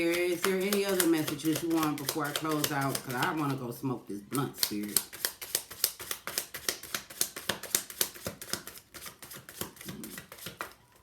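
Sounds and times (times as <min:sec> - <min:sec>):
cards being shuffled: 0:00.0 - 0:03.6, 0:04.3 - 0:11.0.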